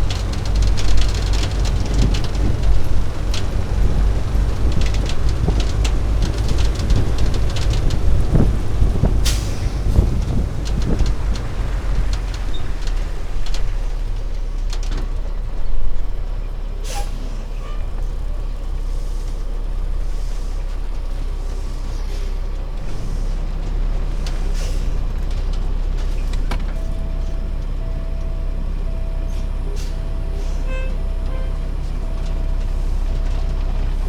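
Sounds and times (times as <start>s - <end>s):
truck engine and road drone: 0.0s - 34.0s.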